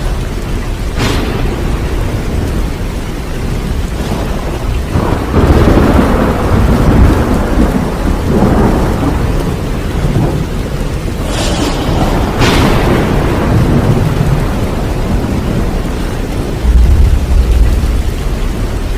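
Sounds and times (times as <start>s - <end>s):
heavy rain: 0.0s - 18.9s
thunder rumbling: 0.0s - 18.9s
sharp thunderclap: 0.9s - 2.9s, 3.6s - 18.4s.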